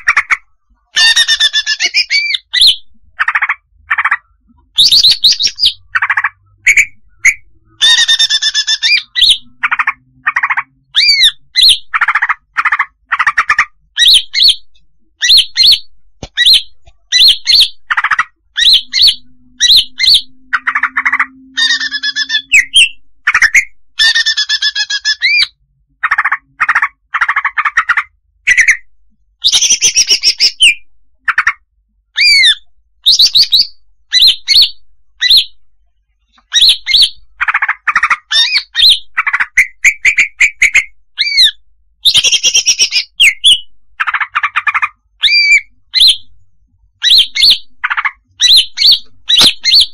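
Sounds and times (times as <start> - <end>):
bird calling: 0.0 - 31.6, 32.2 - 35.6, 36.4 - 46.3.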